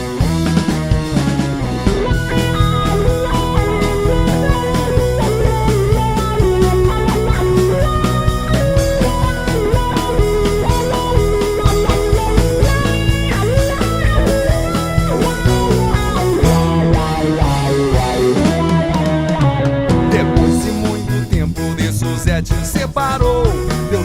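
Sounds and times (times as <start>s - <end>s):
bass: 0.0s - 24.0s
drum kit: 0.0s - 24.0s
plucked guitar melody: 0.0s - 24.0s.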